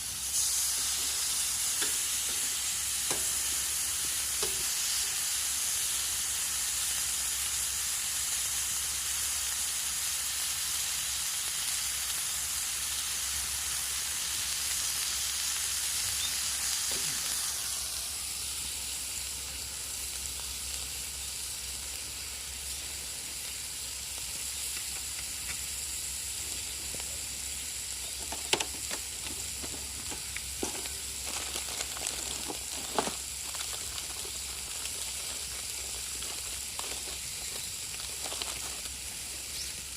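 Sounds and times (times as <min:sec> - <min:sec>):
steak sizzling in frying pan: 0:00.0 - 0:39.9.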